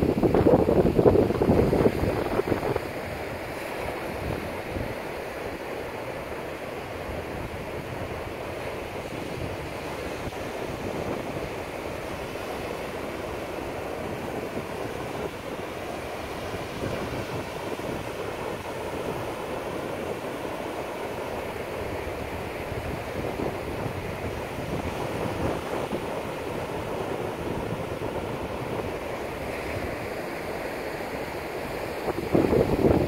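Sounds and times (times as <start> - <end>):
wind buffeting microphone: 0.0 - 5.1, 7.0 - 30.6, 31.5 - 33.0
ocean waves breaking on beach: 0.0 - 33.0.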